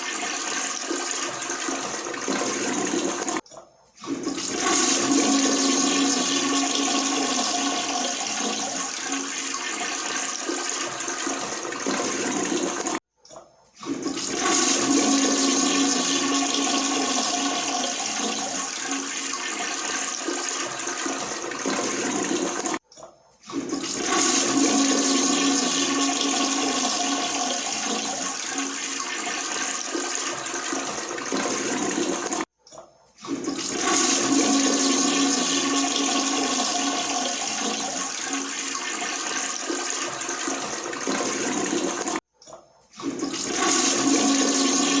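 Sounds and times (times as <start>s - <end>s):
toilet flushing: 0.0s - 3.4s, 4.0s - 13.0s, 13.8s - 22.8s, 23.4s - 32.5s, 33.2s - 42.3s, 42.9s - 45.0s.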